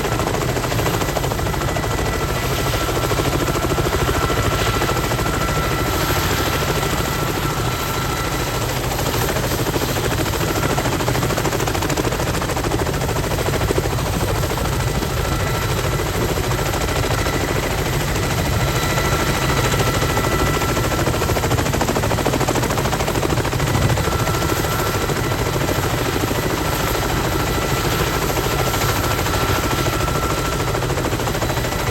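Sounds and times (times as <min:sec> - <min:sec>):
helicopter rotor blades chopping: 0:00.0 - 0:31.9
turboshaft engine whine: 0:00.0 - 0:31.9.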